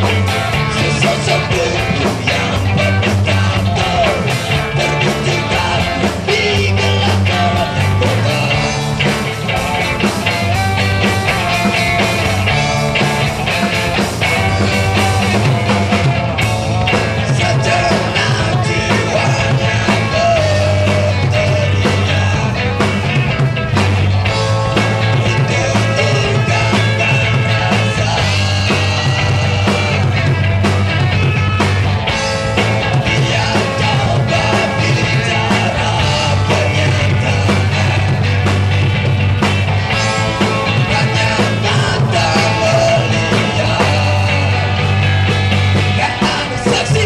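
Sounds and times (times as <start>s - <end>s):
bass line: 0.0s - 47.0s
drums steady beat: 0.0s - 47.0s.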